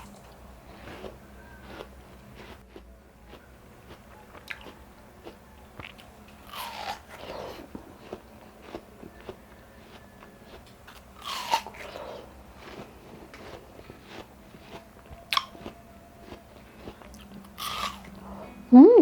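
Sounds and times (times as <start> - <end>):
person chewing watermelon: 0.0 - 18.2.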